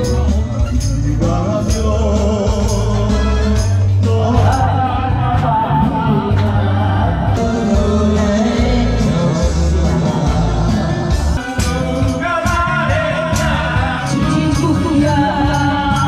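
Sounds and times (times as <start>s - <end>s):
karaoke backing track: 0.0s - 16.0s
man singing into a microphone: 0.0s - 16.0s.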